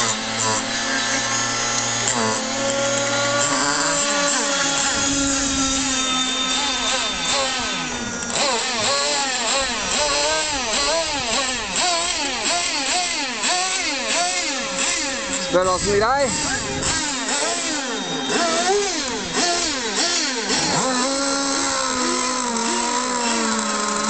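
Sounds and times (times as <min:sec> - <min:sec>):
model speedboat motor whining: 0:00.0 - 0:24.0.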